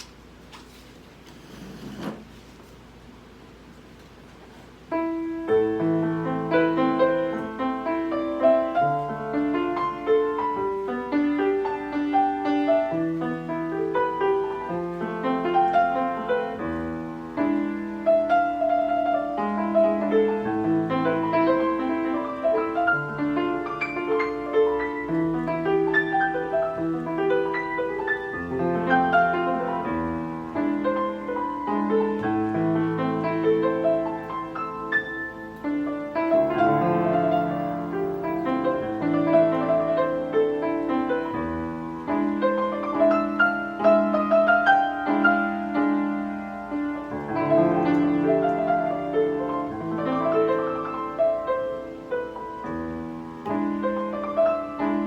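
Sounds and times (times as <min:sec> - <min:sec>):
slow piano playing: 0:04.7 - 0:55.0.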